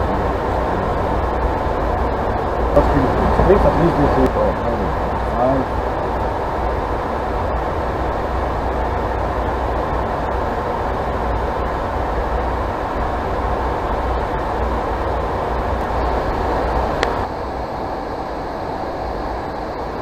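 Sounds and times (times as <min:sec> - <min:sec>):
airflow rushing over jet: 0:00.0 - 0:20.0
jet engine drone: 0:00.0 - 0:20.0.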